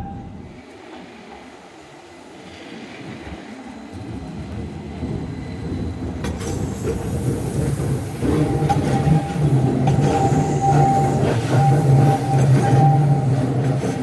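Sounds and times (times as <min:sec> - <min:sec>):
train rumble: 0:00.0 - 0:14.0
train wheel clacks: 0:02.4 - 0:14.0.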